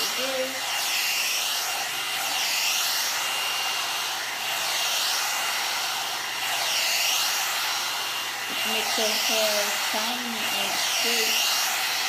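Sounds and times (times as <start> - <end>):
hot air brush blowing air: 0.0 - 12.0.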